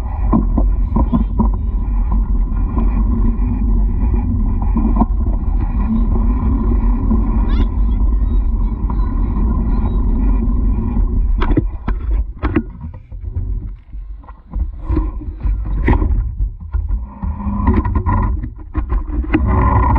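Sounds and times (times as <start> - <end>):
bicycle rattling over bumps: 0.0 - 19.9
wind buffeting microphone: 0.0 - 19.9.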